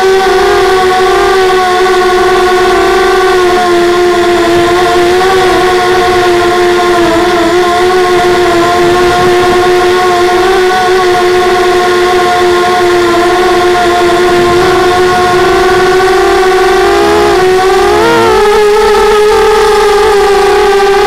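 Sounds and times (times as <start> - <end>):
small electric motor whine: 0.0 - 21.0.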